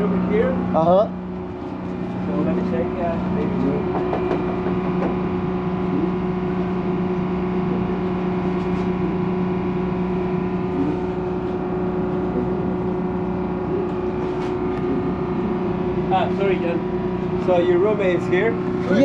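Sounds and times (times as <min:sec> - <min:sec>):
boat machinery droning hum: 0:00.0 - 0:19.0.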